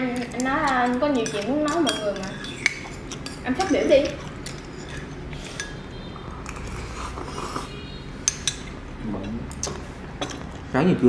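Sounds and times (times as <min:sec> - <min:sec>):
chopsticks clinking on porcelain bowls: 0:00.0 - 0:07.6, 0:08.2 - 0:10.6.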